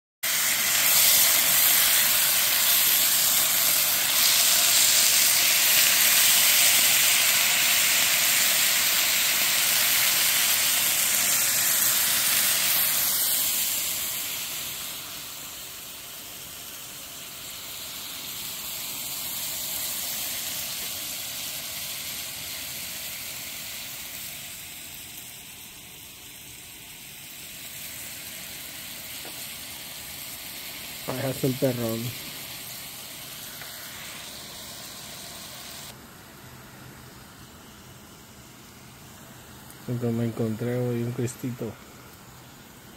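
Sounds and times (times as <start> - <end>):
meat sizzling in a frying pan: 0.2 - 42.9.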